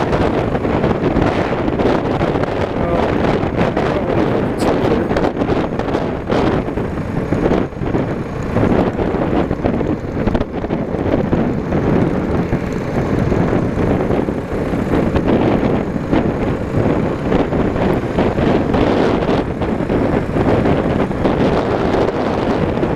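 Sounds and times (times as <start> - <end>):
motorcycle engine running: 0.0 - 22.9
wind buffeting microphone: 0.0 - 22.9.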